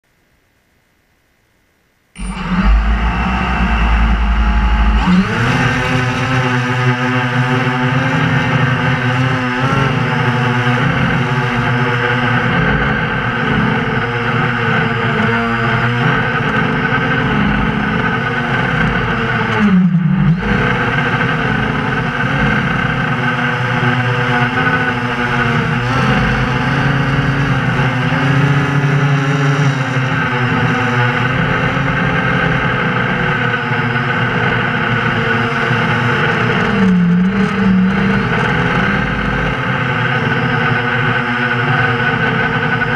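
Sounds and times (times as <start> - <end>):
drone propellers whirring: 2.2 - 42.9.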